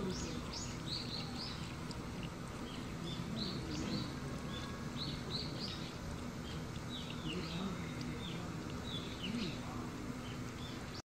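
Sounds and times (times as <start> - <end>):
outdoor background hum: 0.0 - 11.0
small birds chirping: 0.0 - 11.0.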